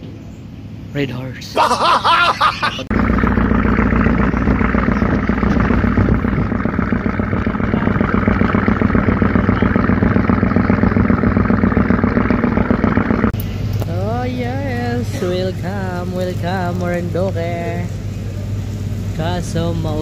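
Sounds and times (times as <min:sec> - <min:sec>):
ship engine droning: 0:00.0 - 0:20.0.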